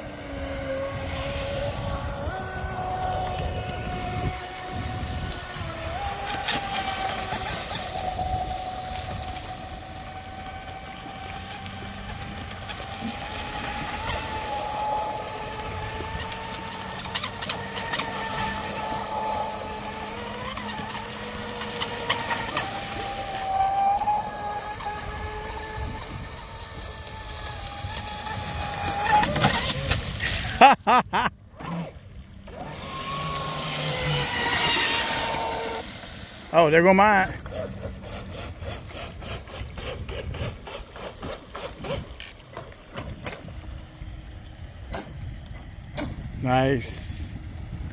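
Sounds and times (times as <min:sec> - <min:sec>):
electric motor whining: 0:00.0 - 0:30.7, 0:31.6 - 0:42.4.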